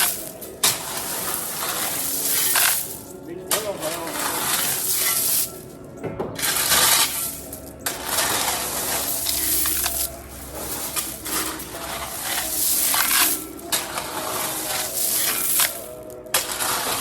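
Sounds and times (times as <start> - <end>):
gravel scraping and crunching: 0.0 - 5.6, 6.4 - 17.0.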